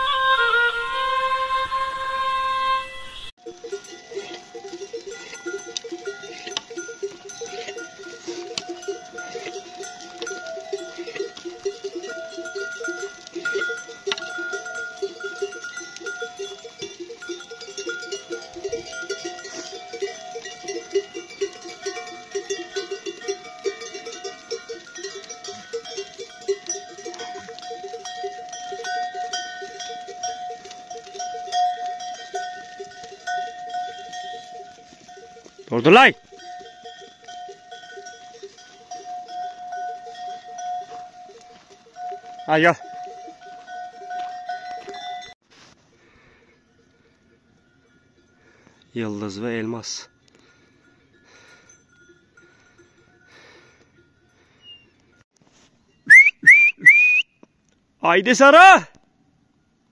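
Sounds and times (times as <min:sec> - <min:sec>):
goat bells clanking: 0:02.8 - 0:56.8.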